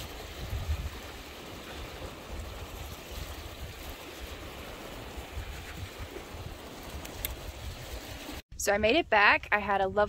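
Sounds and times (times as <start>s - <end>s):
beach surf hissing: 0.0s - 8.4s
gusty wind on microphone: 0.0s - 9.3s.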